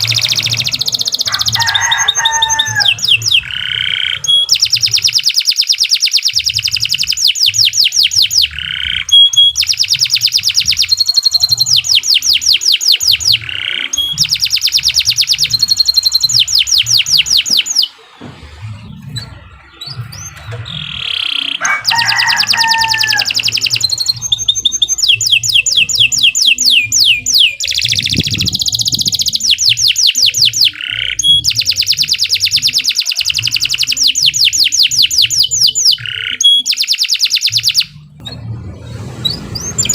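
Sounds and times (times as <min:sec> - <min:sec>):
low whistled bird notes: 0:00.0 - 0:38.5
canary singing trills: 0:00.0 - 0:39.9.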